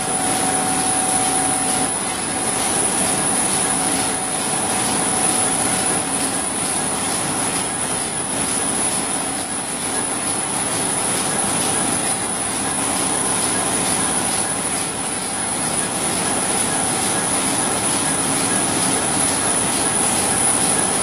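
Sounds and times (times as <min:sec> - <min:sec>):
folding machine running: 0:00.0 - 0:21.0
high-pitched machine whine: 0:00.0 - 0:21.0.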